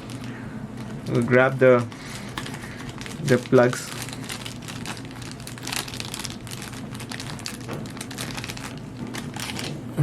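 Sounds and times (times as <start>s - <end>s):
crinkling and rustling: 0.0s - 9.9s.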